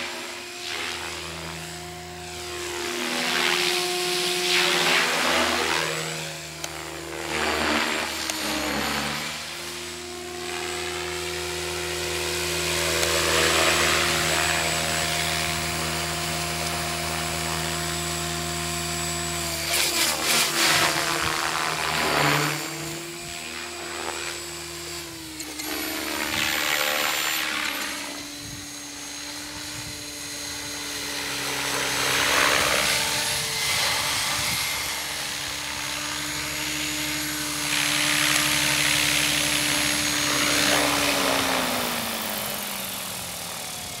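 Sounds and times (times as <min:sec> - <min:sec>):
rotor blades whooshing: 0:00.0 - 0:43.1
rc helicopter motor whine: 0:00.0 - 0:44.0.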